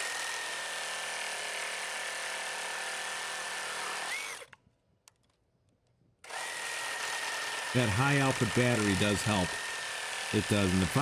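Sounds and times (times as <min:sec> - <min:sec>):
reciprocating saw cutting wood: 0:00.0 - 0:04.6, 0:06.2 - 0:11.0.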